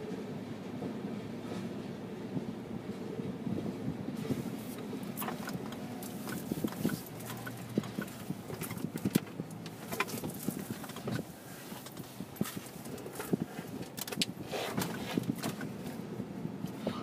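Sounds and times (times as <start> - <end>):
train rumble: 0.0 - 17.0
wheels clacking over rail joints: 0.0 - 17.0.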